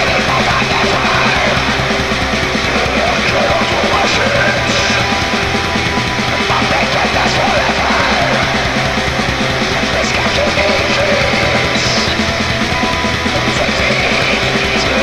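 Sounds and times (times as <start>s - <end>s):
heavy metal song: 0.0s - 15.0s.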